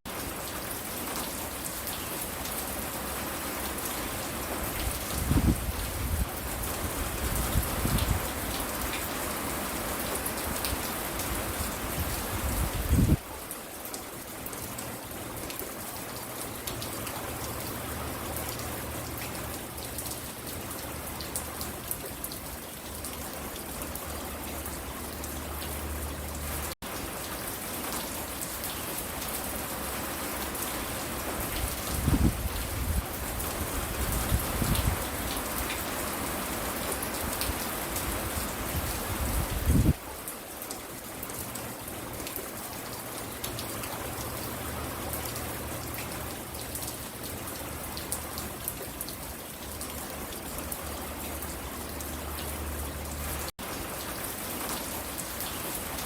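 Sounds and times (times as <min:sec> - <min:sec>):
steady rain falling: 0:00.1 - 0:56.0.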